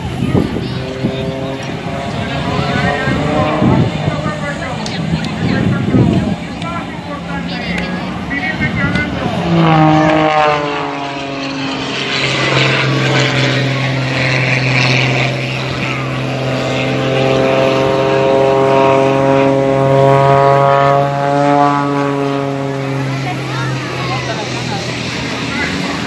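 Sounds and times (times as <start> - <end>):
propeller plane droning overhead: 0.0 - 26.0.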